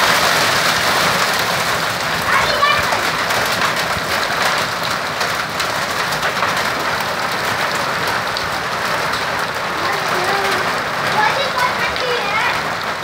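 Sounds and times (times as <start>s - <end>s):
hail and rain pelting down: 0.0s - 13.0s.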